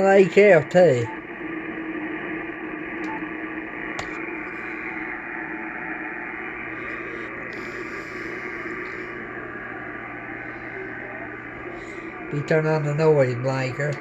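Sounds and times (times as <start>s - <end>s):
radio static noise: 0.0s - 14.0s
steady tone: 0.0s - 14.0s.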